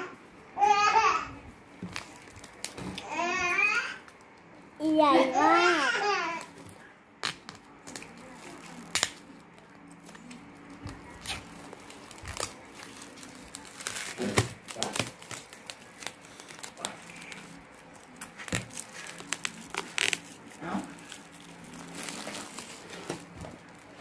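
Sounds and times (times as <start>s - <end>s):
cling film crinkling and tearing: 1.8s - 4.3s, 6.0s - 24.0s.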